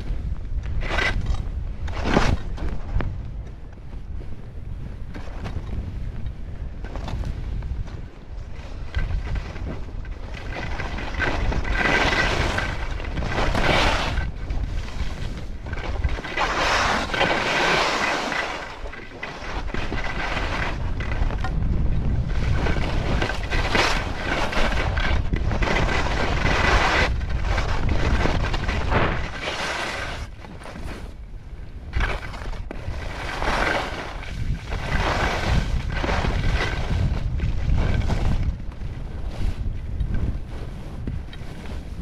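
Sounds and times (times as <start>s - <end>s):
skis sliding over snow: 0.0s - 42.0s
wind buffeting microphone: 0.0s - 42.0s.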